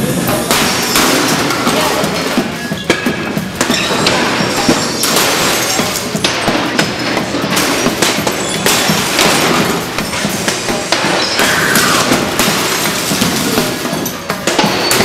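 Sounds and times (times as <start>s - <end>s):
music: 0.0s - 15.0s
glass breaking and clinking: 0.3s - 15.0s.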